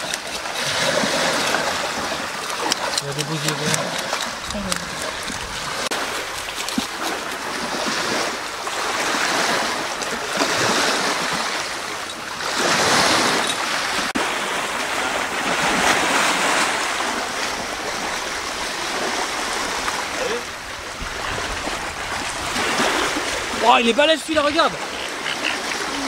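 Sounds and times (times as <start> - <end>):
sea water lapping: 0.0 - 26.0.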